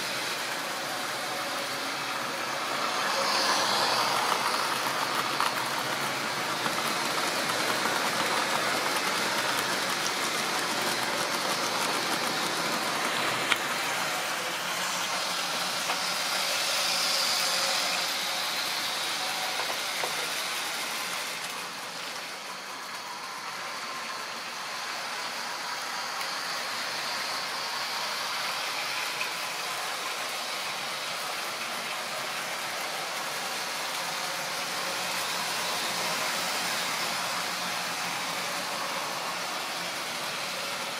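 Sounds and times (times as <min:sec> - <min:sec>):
model train rattling and whirring: 0:00.0 - 0:40.9.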